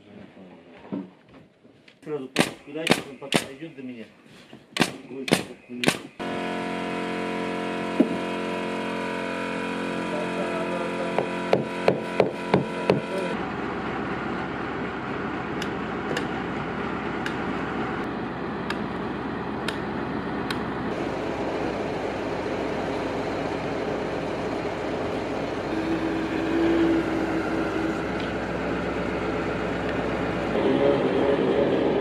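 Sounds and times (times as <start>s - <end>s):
steady mechanical whine: 4.9s - 32.0s
crane engine running: 5.6s - 32.0s.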